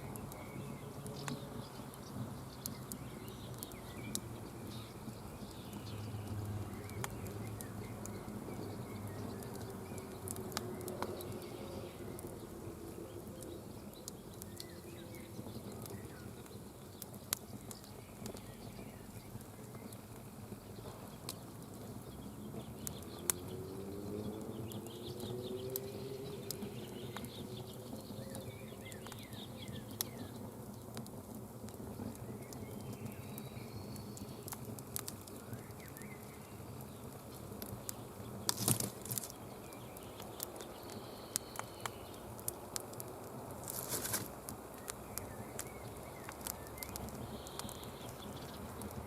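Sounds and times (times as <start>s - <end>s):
birds chirping: 0.0s - 31.0s, 31.8s - 42.8s, 43.6s - 49.0s
campfire crackling and popping: 0.0s - 49.0s.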